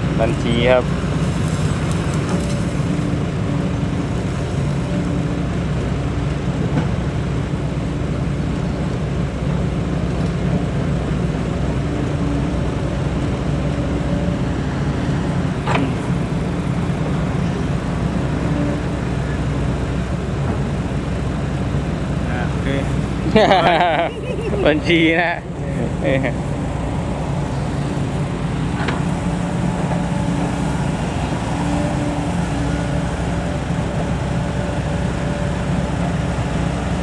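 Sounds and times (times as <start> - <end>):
truck engine droning: 0.0 - 37.0.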